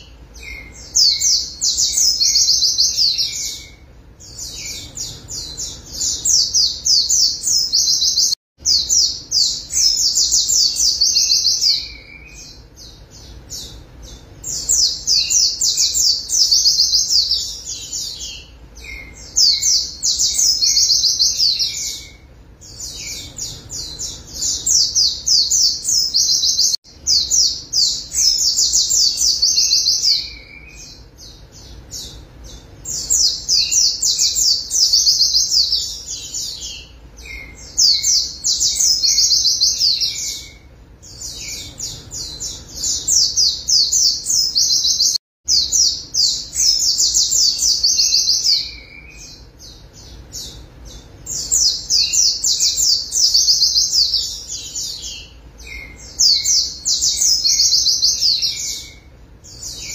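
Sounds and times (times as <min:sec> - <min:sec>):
bird twittering song: 0:00.0 - 0:59.9.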